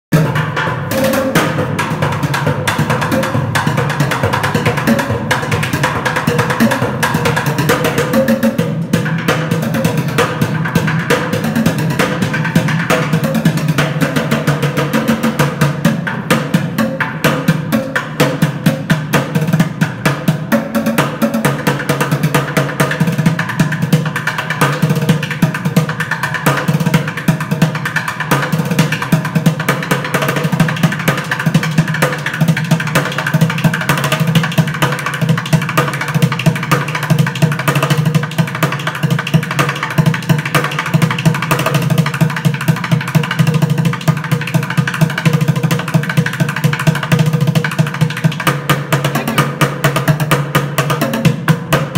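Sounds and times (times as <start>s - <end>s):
bucket drumming: 0.1s - 51.9s.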